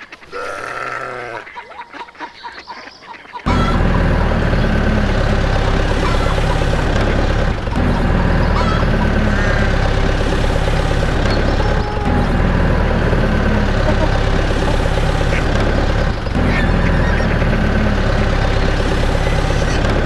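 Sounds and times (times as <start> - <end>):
tractor engine running: 3.5 - 20.0.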